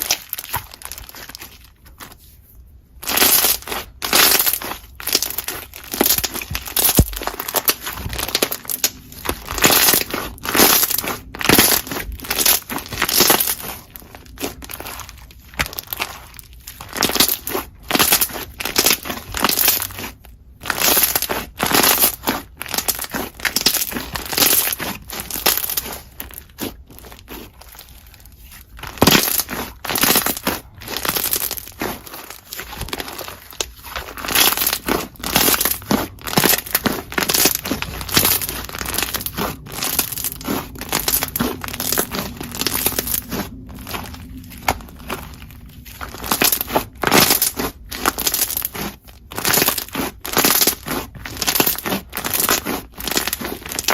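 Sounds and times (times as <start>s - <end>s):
squishing crunchy slime: 0.0s - 53.9s.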